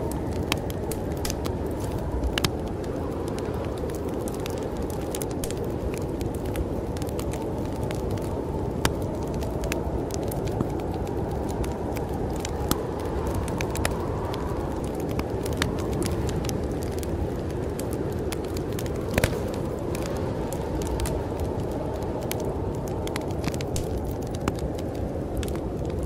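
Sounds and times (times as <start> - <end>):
storm wind rushing: 0.0 - 26.0
wood fire crackling: 0.0 - 26.0.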